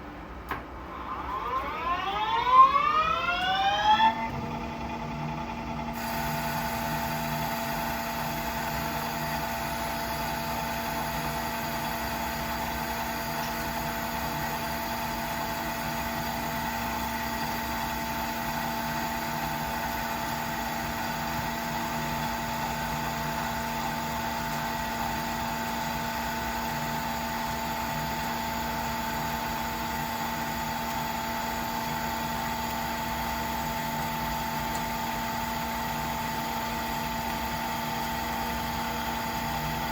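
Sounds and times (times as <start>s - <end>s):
metal lathe humming: 1.4s - 39.9s.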